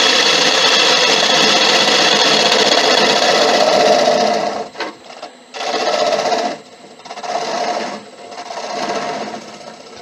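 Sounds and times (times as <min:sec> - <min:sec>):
turning tool cutting wood on lathe: 0:00.0 - 0:10.0.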